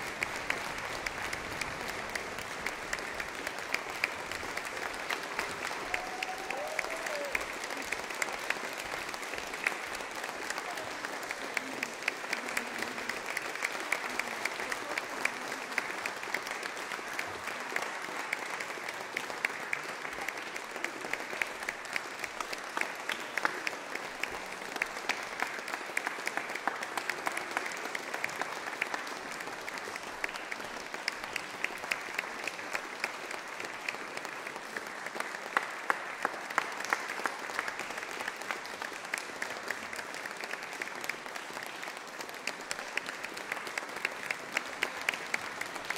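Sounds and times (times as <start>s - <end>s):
audience applauding: 0.0s - 45.9s.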